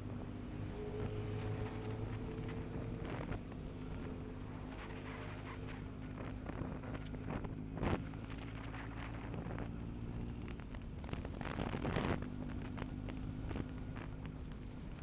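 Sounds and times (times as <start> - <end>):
vehicle engine running: 0.0 - 15.0
clatter: 1.0 - 15.0.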